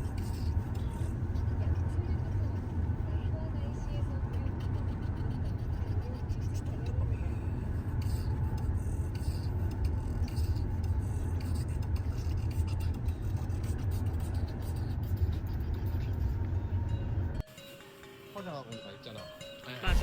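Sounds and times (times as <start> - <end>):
car road noise from inside: 0.0 - 17.4.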